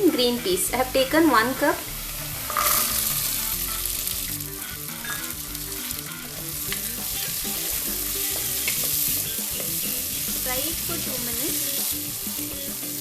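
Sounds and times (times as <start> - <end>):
vegetables sizzling in hot fat: 0.0 - 13.0
stirring clicks: 2.4 - 13.0.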